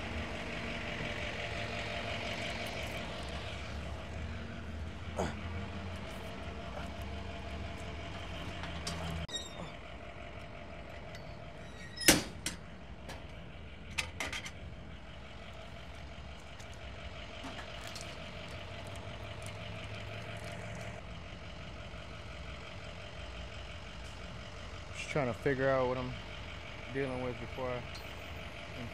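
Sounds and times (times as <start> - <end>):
engine running with whine: 0.0 - 28.9.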